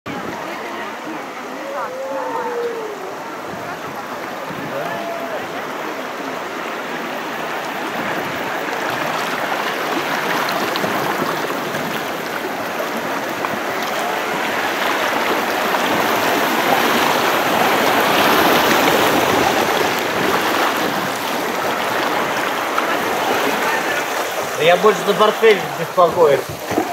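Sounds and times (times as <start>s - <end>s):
river rushing over rocks: 0.1s - 26.9s.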